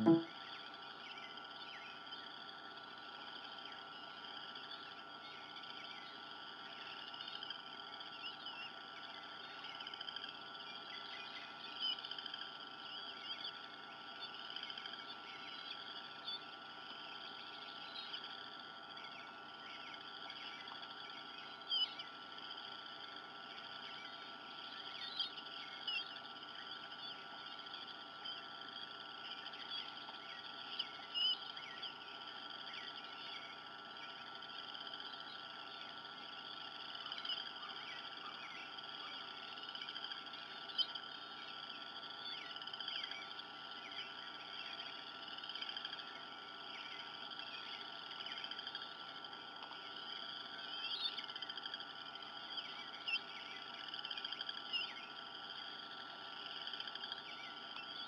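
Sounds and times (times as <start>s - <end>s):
faint steady hum: 0.0s - 58.0s
wild birds chirping: 0.0s - 58.0s.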